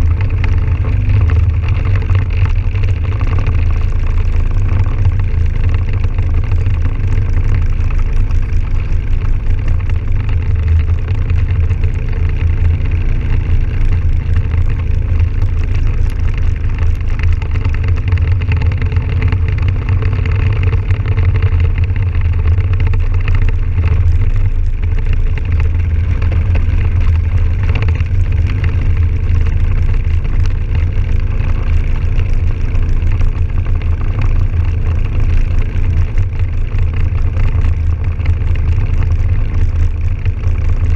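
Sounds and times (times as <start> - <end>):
atv engine droning: 0.0 - 40.9
wind noise on microphone: 0.0 - 40.9.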